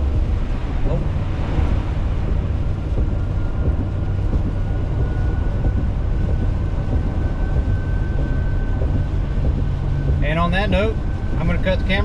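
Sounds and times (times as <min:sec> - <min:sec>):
car driving heard from cabin: 0:00.0 - 0:12.0
faint thin whine: 0:00.0 - 0:12.0.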